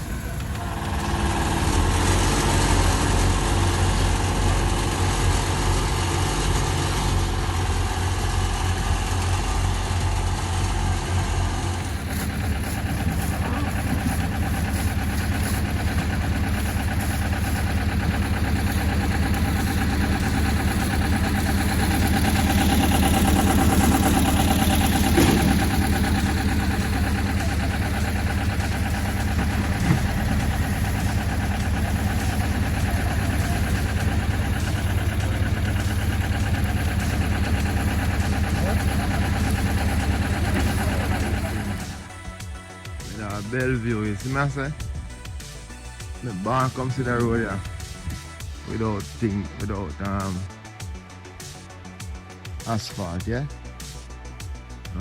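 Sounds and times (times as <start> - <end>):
paving machinery engines humming: 0.0 - 55.0.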